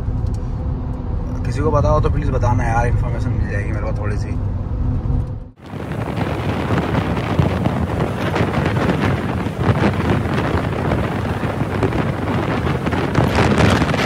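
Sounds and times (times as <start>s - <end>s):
wind buffeting microphone: 1.2s - 14.0s.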